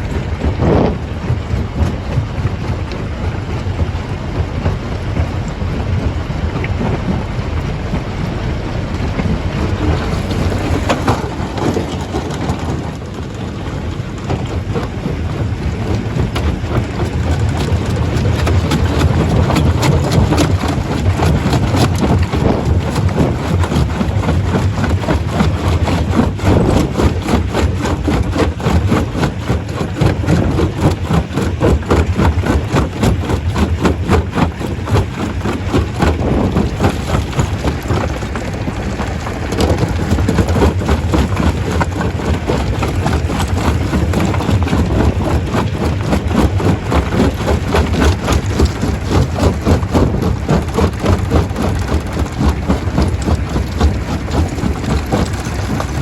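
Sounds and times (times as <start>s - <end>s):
heavy low rumble: 0.0s - 56.0s
stone crusher clattering rocks: 9.8s - 56.0s.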